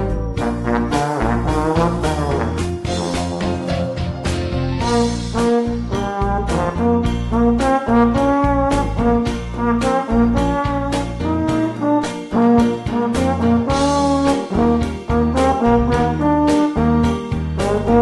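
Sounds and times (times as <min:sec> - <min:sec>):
backing accompaniment with bass: 0:00.0 - 0:18.0
trombone blues melody: 0:00.0 - 0:18.0.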